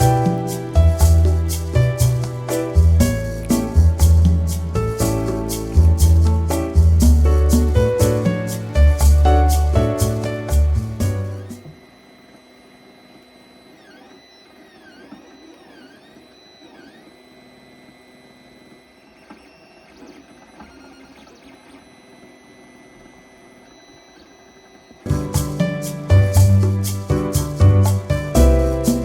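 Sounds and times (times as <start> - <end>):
steady electronic tone: 0.0 - 29.0
stepper motors whining: 0.0 - 29.0.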